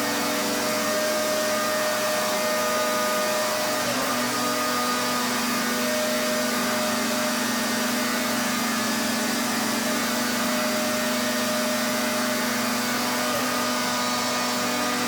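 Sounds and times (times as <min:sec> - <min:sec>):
pressure washer motor hum: 0:00.0 - 0:15.0.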